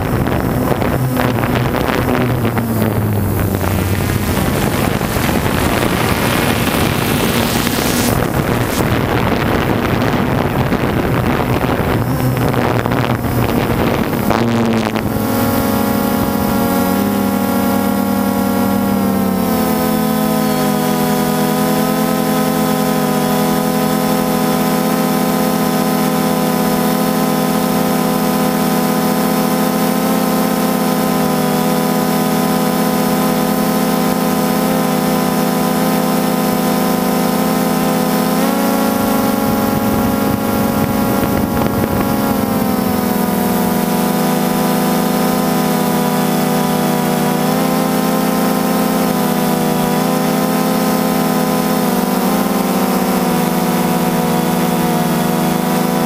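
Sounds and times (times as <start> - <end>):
drone propellers droning: 0.0 - 56.0.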